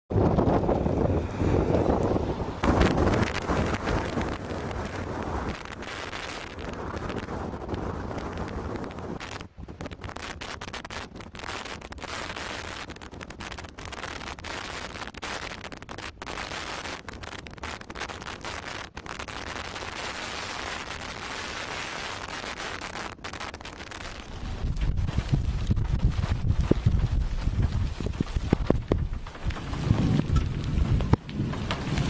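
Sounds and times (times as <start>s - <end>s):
strong wind blowing on microphone: 0.1s - 32.0s.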